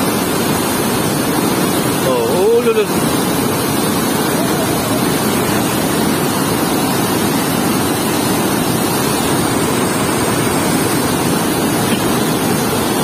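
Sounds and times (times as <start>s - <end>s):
water gushing through sluice gate: 0.0s - 13.0s.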